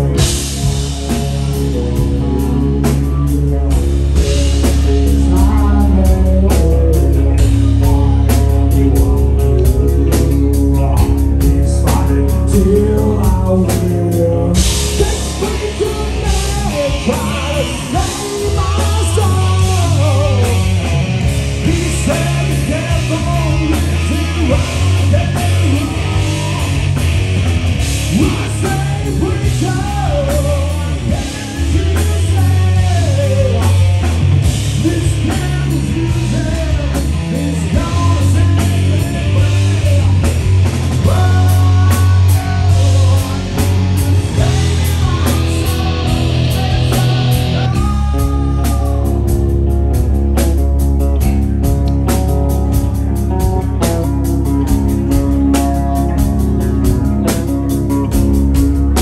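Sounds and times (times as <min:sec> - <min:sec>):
electric guitar lead lines: 0:00.0 - 0:59.0
hard rock band playing: 0:00.0 - 0:59.0.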